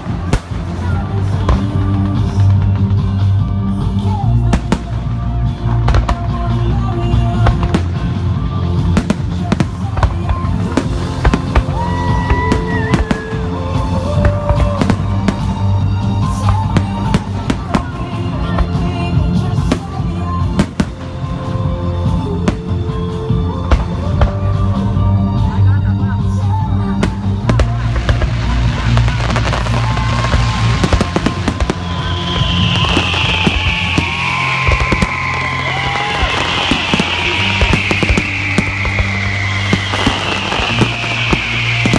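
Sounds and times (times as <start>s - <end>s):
fireworks bangs and cracks: 0.0s - 41.9s
loud music with steady bass: 0.0s - 41.9s.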